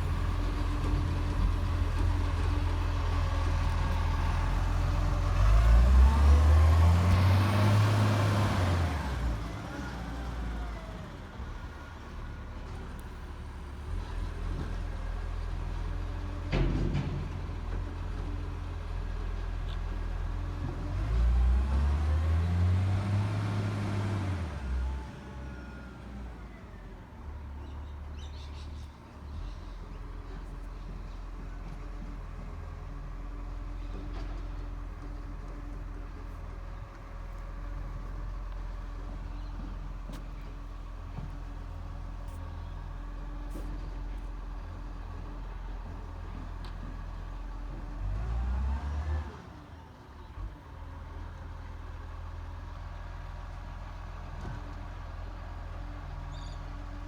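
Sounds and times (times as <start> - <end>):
diesel truck engine idling and revving: 0.0 - 57.0.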